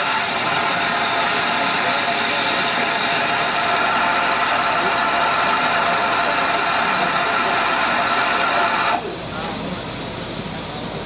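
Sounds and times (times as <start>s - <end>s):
steam locomotive hissing steam: 0.0s - 11.0s.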